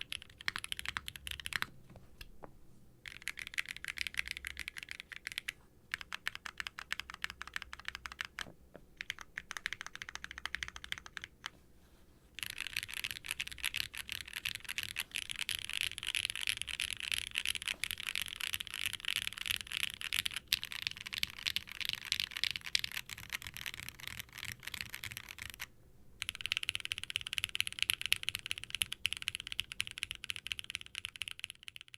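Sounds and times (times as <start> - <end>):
mechanical keyboard typing: 0.0 - 1.7, 3.1 - 11.5, 12.4 - 31.9.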